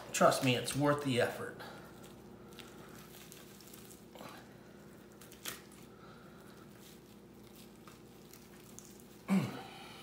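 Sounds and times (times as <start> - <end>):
wet squishing of raw meat: 0.0 - 9.3.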